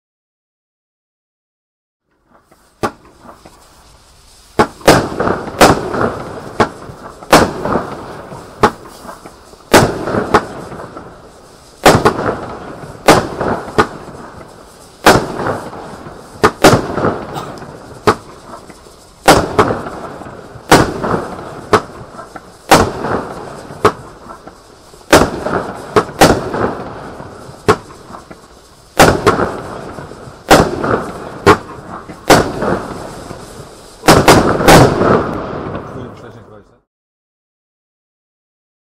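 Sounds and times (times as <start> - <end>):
firework bangs: 2.1 - 36.7
firework crackle: 2.1 - 36.7.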